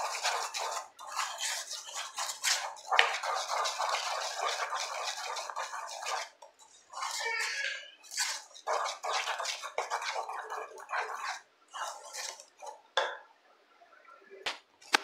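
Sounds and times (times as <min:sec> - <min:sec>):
wooden spoon scraping a pot: 0:00.0 - 0:12.8.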